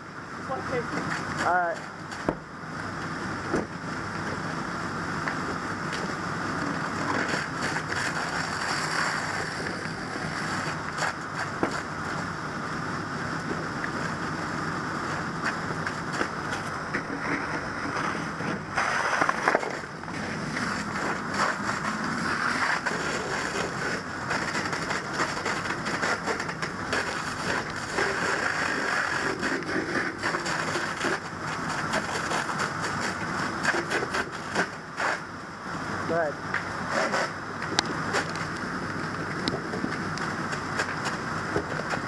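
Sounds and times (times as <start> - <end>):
fire crackling: 0.0 - 42.0
fire hose spraying water: 0.0 - 42.0.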